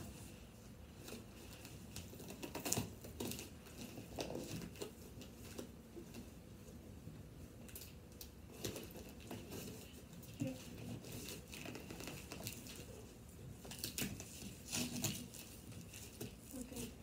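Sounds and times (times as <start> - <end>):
box and packing material handled: 0.0 - 17.0.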